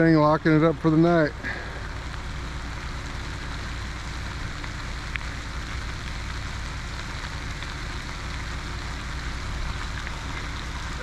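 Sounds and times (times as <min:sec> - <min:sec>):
road noise inside cab: 0:00.0 - 0:11.0
truck engine drone: 0:00.0 - 0:11.0.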